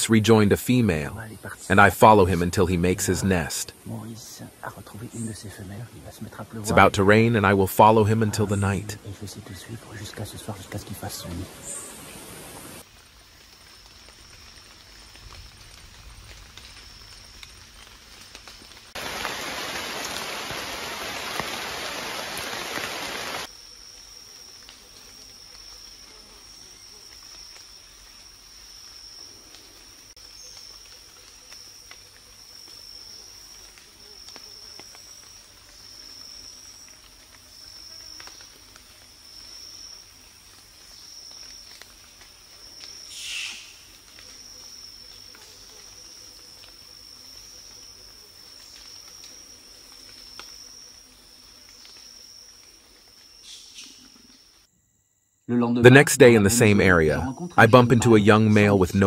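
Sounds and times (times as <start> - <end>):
insects pulsing drone: 0.0 - 59.0.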